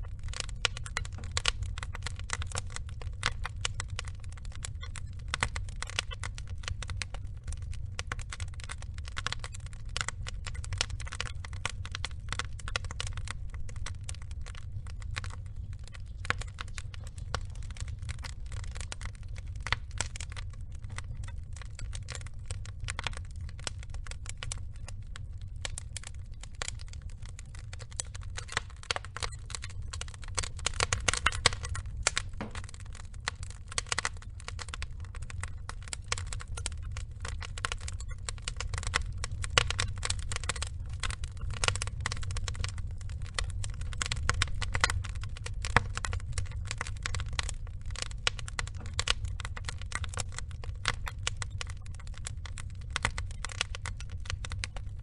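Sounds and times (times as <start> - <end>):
fire low rumble: 0.0 - 55.0
log fire crackling: 0.0 - 55.0.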